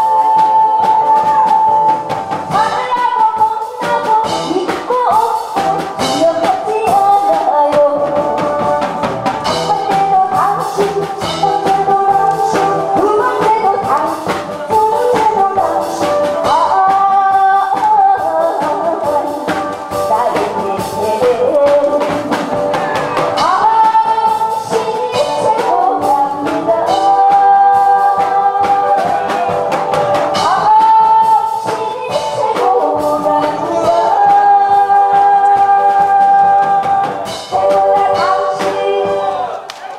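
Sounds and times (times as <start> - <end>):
woman singing into microphone: 0.0 - 39.6
backing music with drum beat: 0.0 - 39.9.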